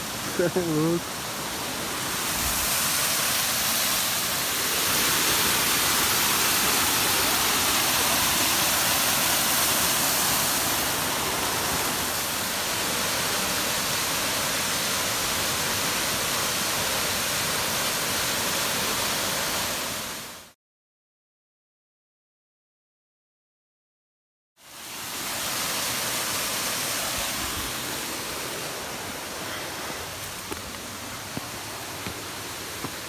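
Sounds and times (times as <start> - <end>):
stream water pouring over stones: 0.1 - 19.6, 24.9 - 33.0.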